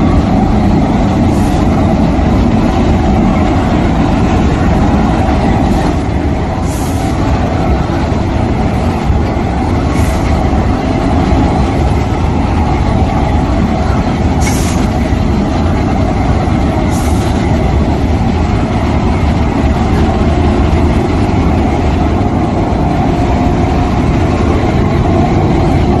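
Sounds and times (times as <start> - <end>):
industrial machinery running: 0.0 - 26.0.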